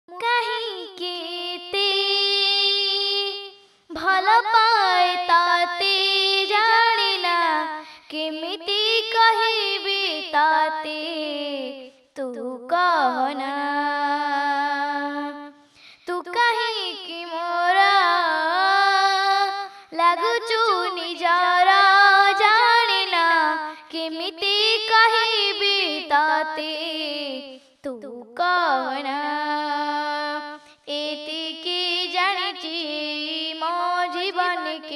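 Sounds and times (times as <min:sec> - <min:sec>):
girl singing: 0:00.1 - 0:34.9.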